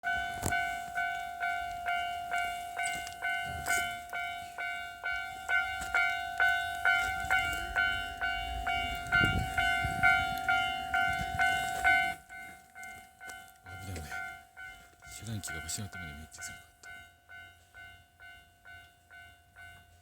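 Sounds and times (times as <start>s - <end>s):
level crossing warning bell: 0.0s - 20.0s
low train rumble: 0.0s - 20.0s.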